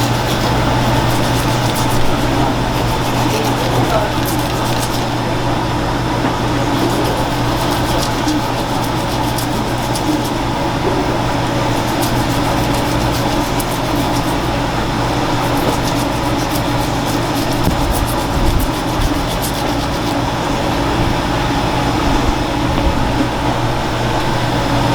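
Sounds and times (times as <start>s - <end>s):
kitchen equipment humming: 0.0s - 24.9s.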